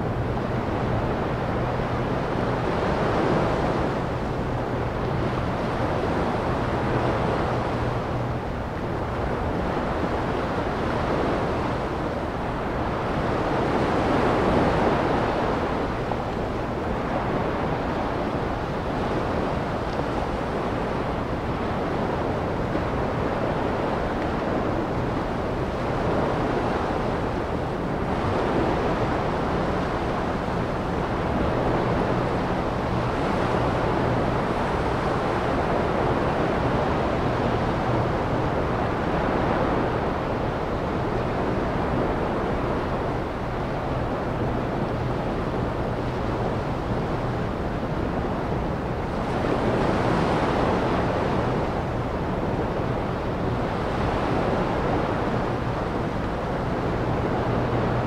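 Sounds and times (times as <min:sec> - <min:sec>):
low steady hum: 0:00.0 - 0:58.0
ocean surf washing ashore: 0:00.0 - 0:58.0.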